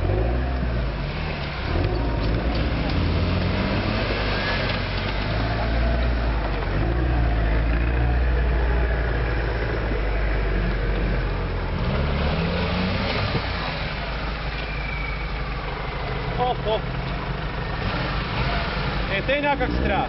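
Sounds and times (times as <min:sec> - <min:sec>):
car engine running under load: 0:00.0 - 0:20.0.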